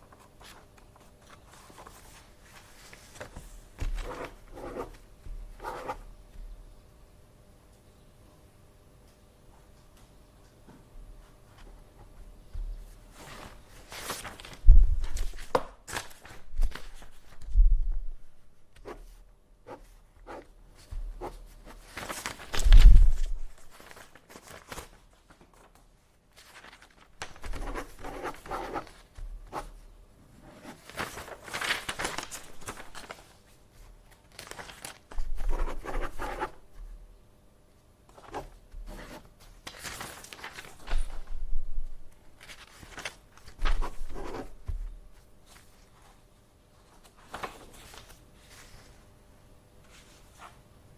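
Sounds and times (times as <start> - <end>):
paper rustling and shuffling: 0.0 - 6.6, 11.2 - 29.8, 30.4 - 36.9, 38.1 - 49.1, 49.8 - 50.7.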